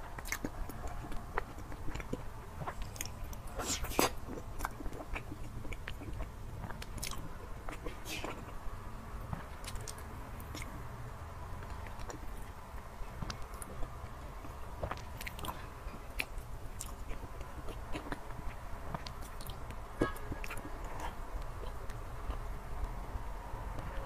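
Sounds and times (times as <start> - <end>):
wet chewing clicks: 0.0 - 8.6, 9.3 - 10.8, 11.6 - 23.0
faint low hum: 0.0 - 24.0.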